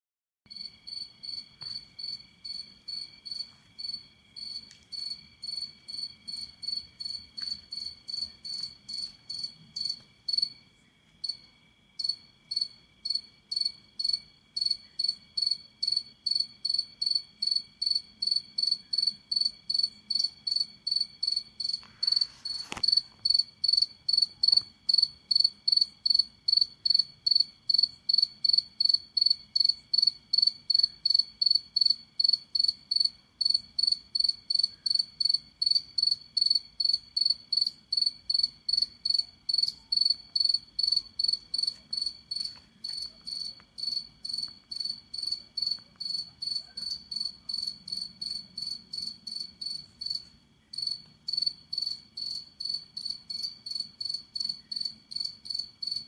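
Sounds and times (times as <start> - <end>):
cricket chirping: 0.5 - 56.0.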